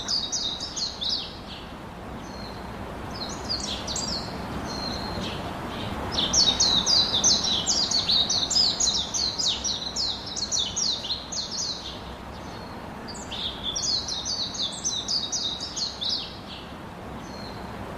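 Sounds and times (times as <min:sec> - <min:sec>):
small birds chirping: 0:00.0 - 0:17.8
steady low background hiss: 0:00.0 - 0:17.9.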